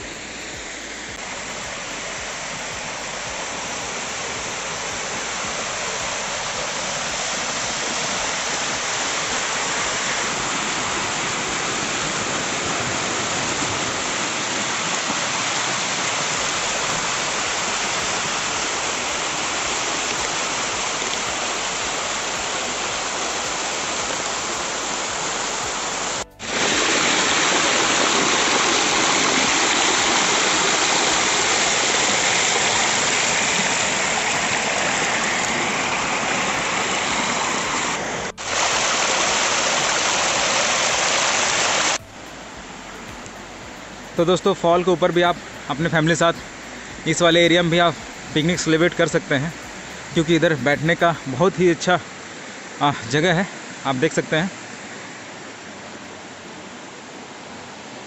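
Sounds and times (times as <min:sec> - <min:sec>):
waterfall splashing over rock: 0:00.0 - 0:58.0.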